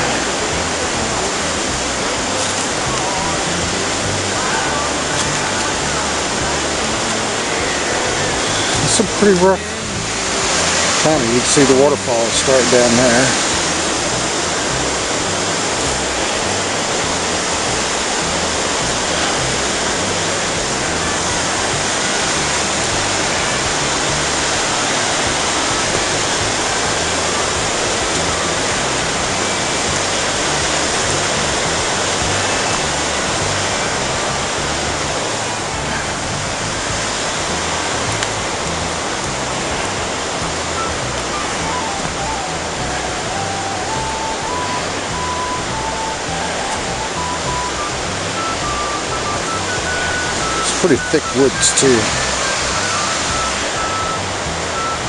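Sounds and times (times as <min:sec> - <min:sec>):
creek water cascading: 0:00.0 - 0:55.0
waterfall rushing: 0:00.0 - 0:55.0.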